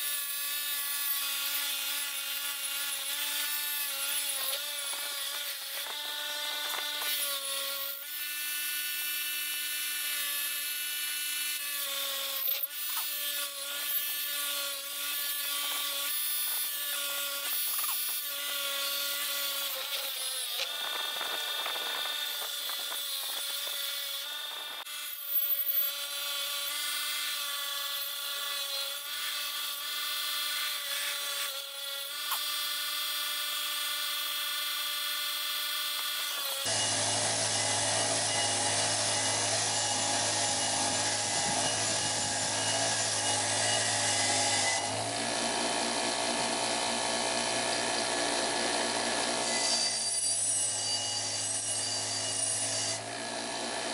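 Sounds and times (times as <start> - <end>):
bench grinder motor hum: 0.5 - 53.9.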